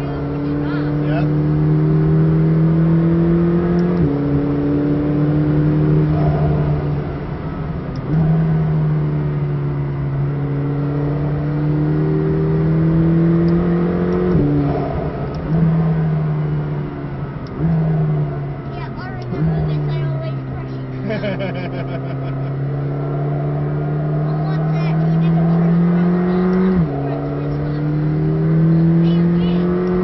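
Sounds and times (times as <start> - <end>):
car engine pulling hard: 0.0 - 30.0.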